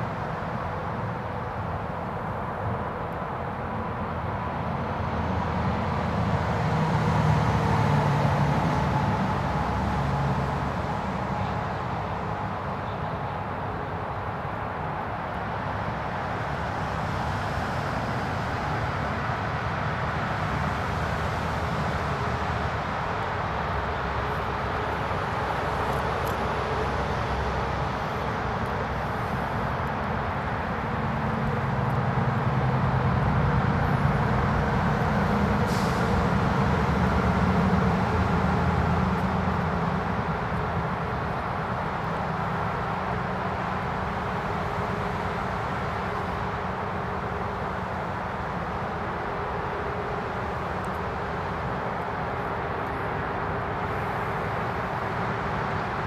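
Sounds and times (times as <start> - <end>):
distant traffic rumble: 0.0 - 56.0.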